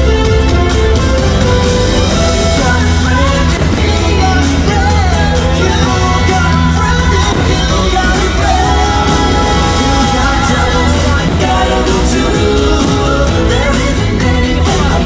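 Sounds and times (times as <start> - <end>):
upbeat song with singer and band: 0.0 - 15.0.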